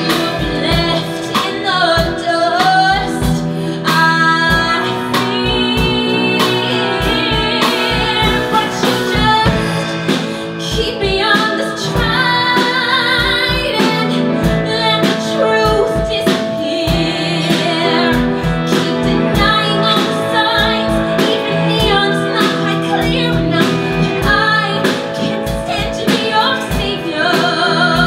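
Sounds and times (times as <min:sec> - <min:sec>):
live band playing: 0:00.0 - 0:28.0
woman singing a ballad: 0:00.0 - 0:28.0.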